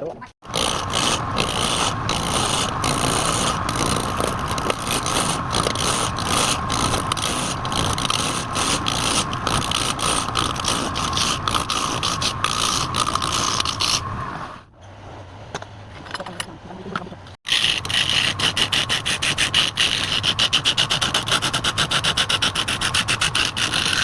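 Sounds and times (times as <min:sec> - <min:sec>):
turning tool scraping wood: 0:00.4 - 0:14.5, 0:17.4 - 0:24.0.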